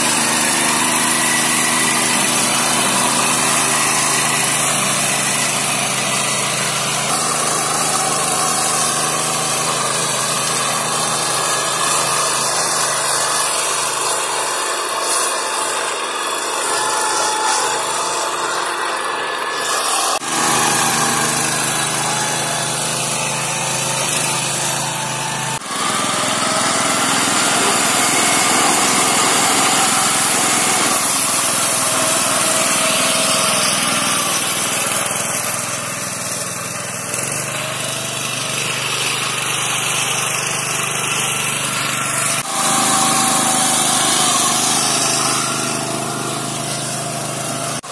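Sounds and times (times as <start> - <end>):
rotary mower cutting grass: 0.0 - 47.9
walk-behind tractor engine: 0.0 - 47.9.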